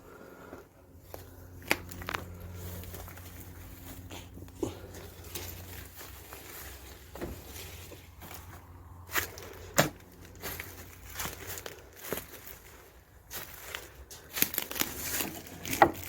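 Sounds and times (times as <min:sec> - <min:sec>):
low steady hum: 0:00.0 - 0:16.0
footsteps: 0:00.5 - 0:16.0.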